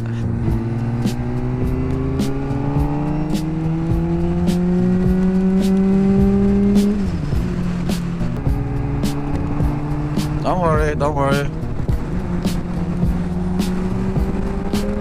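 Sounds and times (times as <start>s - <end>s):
motorcycle engine accelerating: 0.0s - 10.4s, 11.5s - 15.0s.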